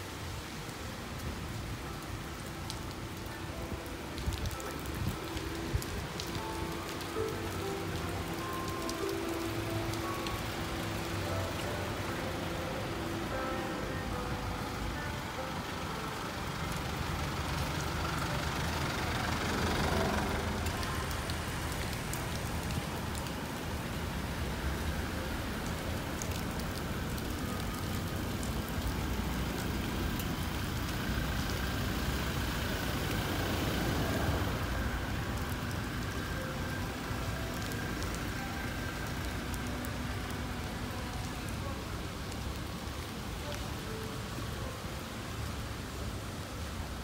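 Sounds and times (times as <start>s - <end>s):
steady outdoor rumble: 0.0s - 47.0s
tyres hissing on wet pavement: 0.0s - 47.0s.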